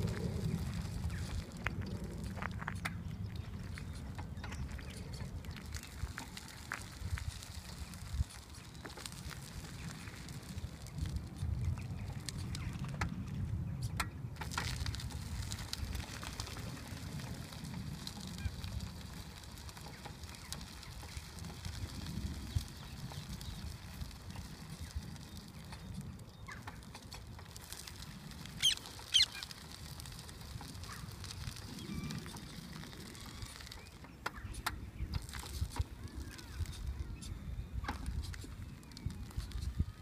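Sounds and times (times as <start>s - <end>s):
wheelchair rolling on gravel: 0.0s - 40.0s.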